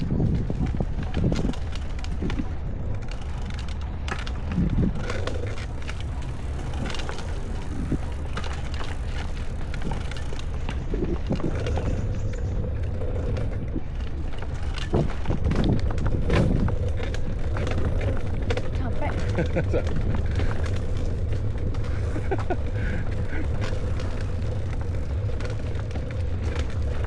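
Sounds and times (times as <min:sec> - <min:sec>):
bicycle clicks and rattles: 0:00.0 - 0:27.0
wind and road noise: 0:00.0 - 0:27.0.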